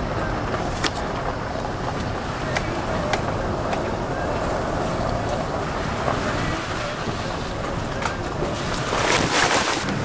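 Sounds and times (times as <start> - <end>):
truck engine rumble: 0.0 - 10.0
wind buffeting microphone: 0.0 - 10.0.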